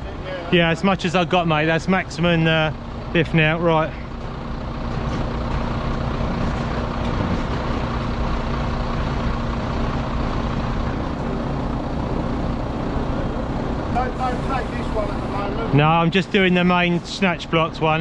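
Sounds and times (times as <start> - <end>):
diesel truck engines running: 0.0 - 18.0.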